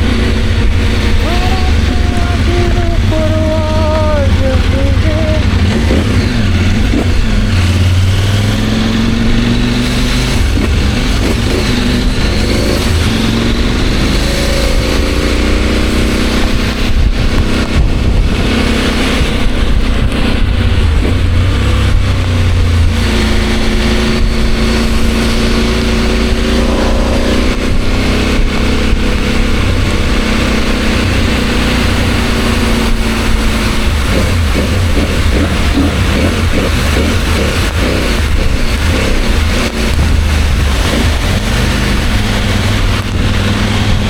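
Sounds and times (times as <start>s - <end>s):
motorcycle engine running: 0.0s - 44.0s
steady rushing noise: 0.0s - 44.0s.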